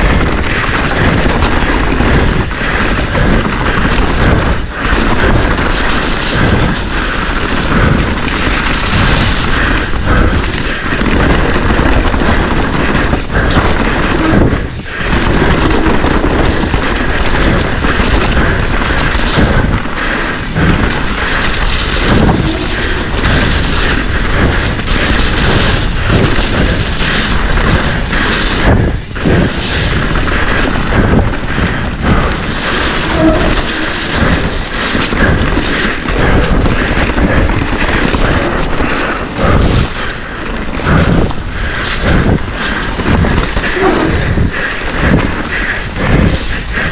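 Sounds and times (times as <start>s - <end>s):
bike thumps and rattles: 0.0s - 46.9s
rushing wind noise: 0.0s - 46.9s.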